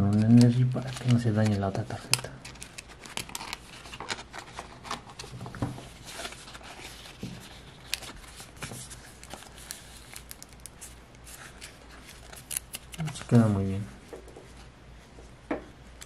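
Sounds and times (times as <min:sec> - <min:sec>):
plastic pages rustling and crinkling: 0:00.0 - 0:13.7.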